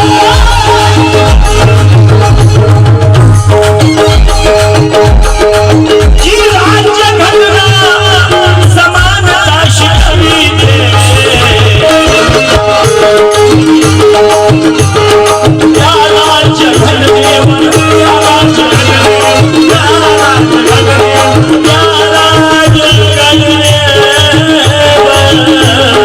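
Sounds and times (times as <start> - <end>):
hand drum beats: 0.0 - 26.0
held melody line: 0.0 - 26.0.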